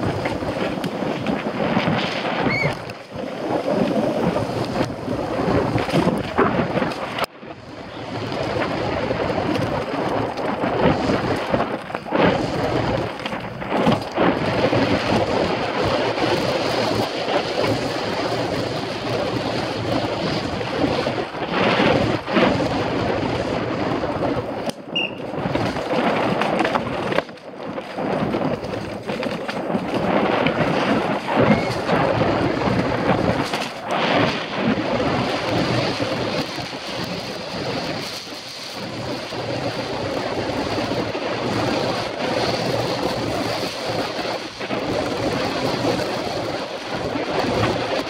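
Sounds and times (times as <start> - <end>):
bike knocks and rattles: 0.0 - 7.3, 7.9 - 48.0
bike tyres rumbling over dirt: 0.0 - 48.0
wind on microphone: 0.0 - 48.0.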